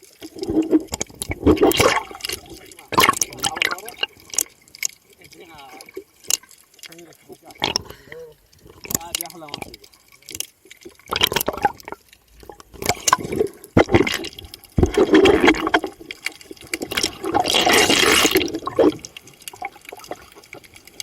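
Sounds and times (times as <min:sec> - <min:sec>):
sea water splashing: 0:00.0 - 0:21.0.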